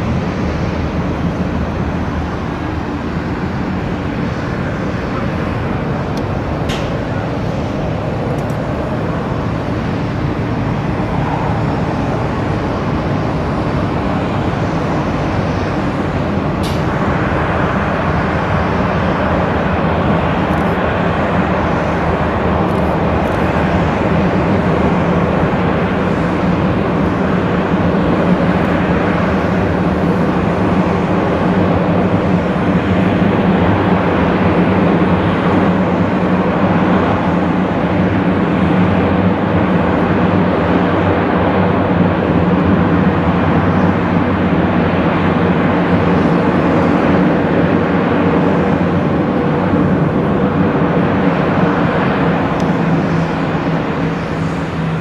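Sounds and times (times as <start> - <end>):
propeller aircraft engines running: 0.0 - 55.0.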